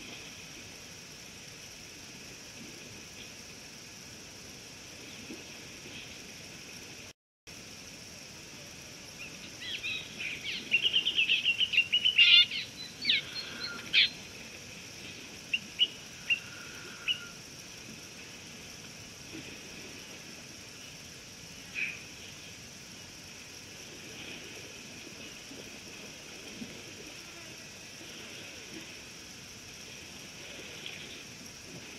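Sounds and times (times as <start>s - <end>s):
steady outdoor hiss: 0.0s - 31.9s.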